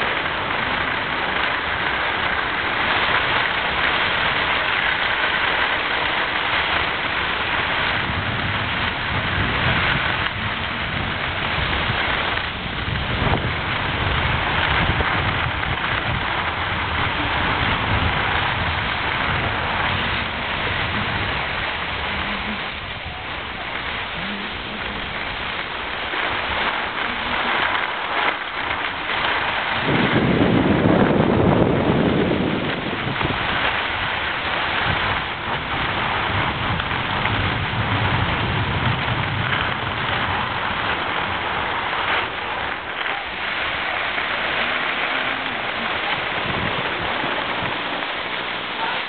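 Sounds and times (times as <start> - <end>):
skis sliding over snow: 0.0 - 49.0
wind rumbling on microphone: 0.0 - 49.0.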